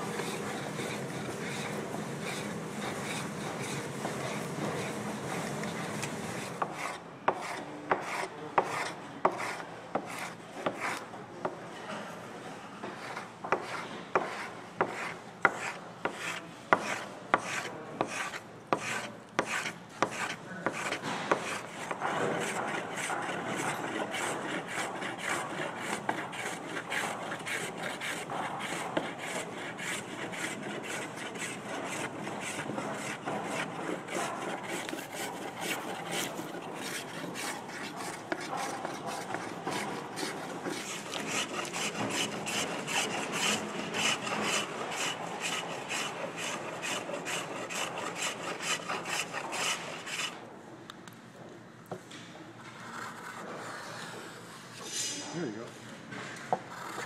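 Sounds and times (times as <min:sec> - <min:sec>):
spokeshave scraping wood: 0:00.0 - 0:11.0, 0:13.0 - 0:50.4.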